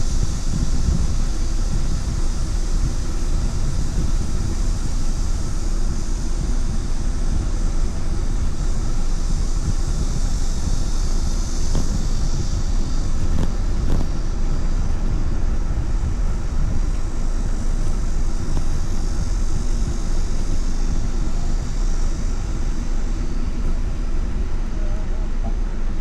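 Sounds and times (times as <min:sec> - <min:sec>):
road noise hiss: 0:00.0 - 0:26.0
wind buffeting microphone: 0:00.0 - 0:26.0.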